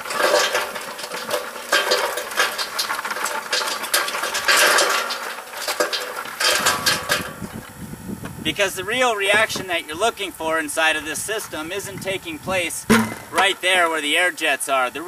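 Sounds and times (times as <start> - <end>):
wood pieces clattering in metal tube: 0.0 - 7.8, 8.9 - 14.3.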